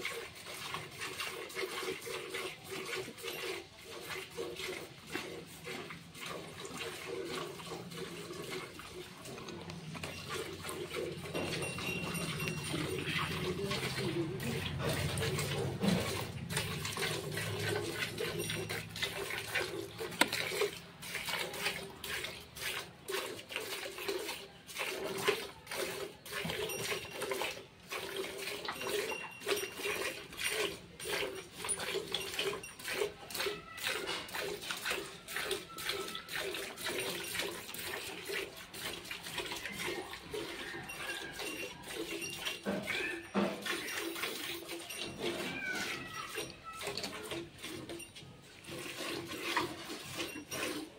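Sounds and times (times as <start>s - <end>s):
milk squirting into bucket: 0.0s - 50.9s.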